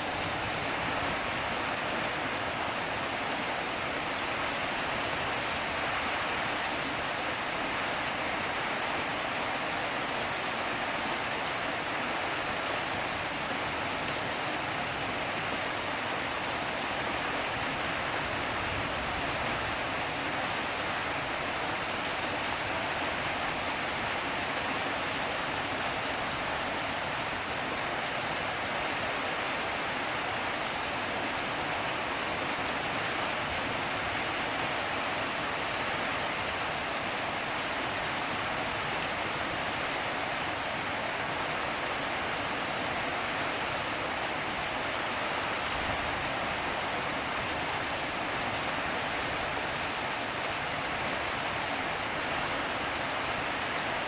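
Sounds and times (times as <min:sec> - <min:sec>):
heavy rain in strong wind: 0:00.0 - 0:54.0.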